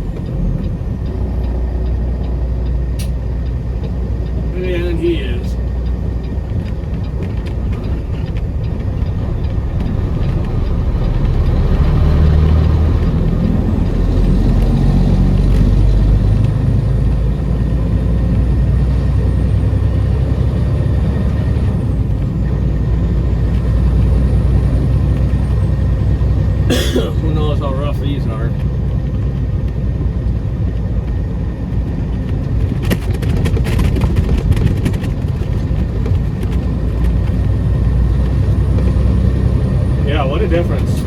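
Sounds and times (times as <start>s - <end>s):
diesel truck engine under load: 0.0s - 41.0s
road rumble: 0.0s - 41.0s.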